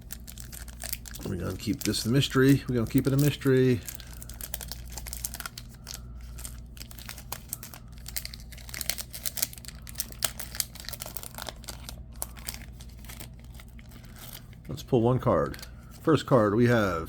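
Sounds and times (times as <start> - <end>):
wrapper tearing and crinkling: 0.0 - 14.8.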